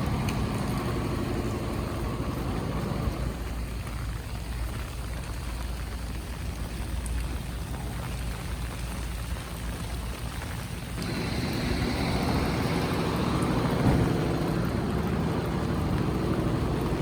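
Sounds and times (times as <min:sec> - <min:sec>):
city traffic rumble: 0:00.0 - 0:17.0
rain pattering on street: 0:00.0 - 0:17.0.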